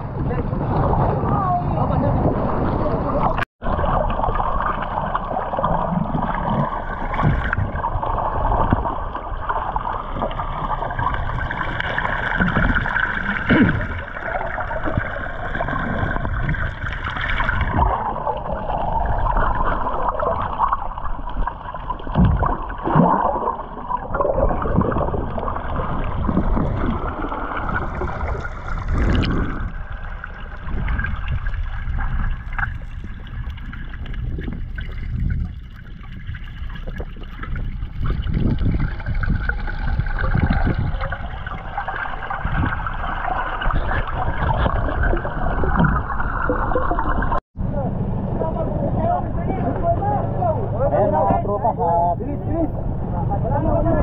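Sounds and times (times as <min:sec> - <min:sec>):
muffled underwater rushing water: 0:00.0 - 0:54.0.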